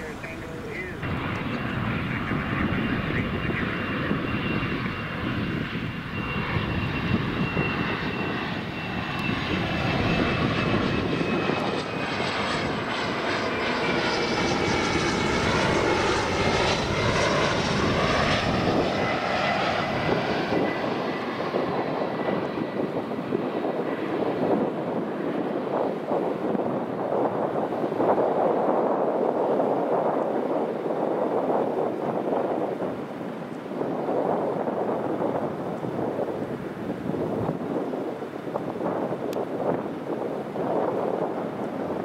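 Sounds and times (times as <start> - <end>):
jet engines rumbling and whining: 0.0 - 42.0.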